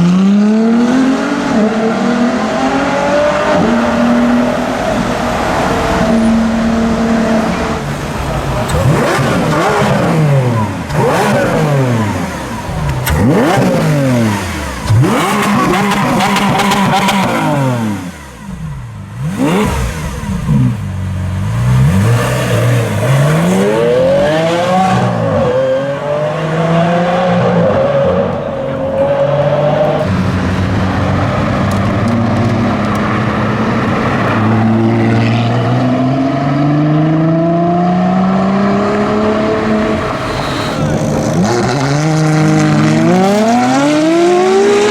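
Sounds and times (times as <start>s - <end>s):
car engine revving hard: 0.0s - 44.9s.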